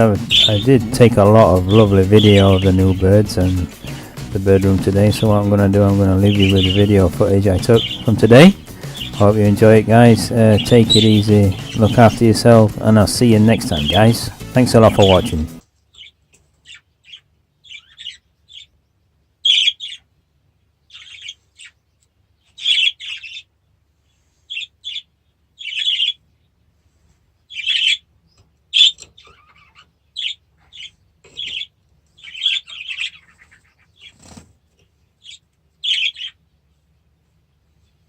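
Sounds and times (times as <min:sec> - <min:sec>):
caged birds chirping: 0:00.0 - 0:38.0.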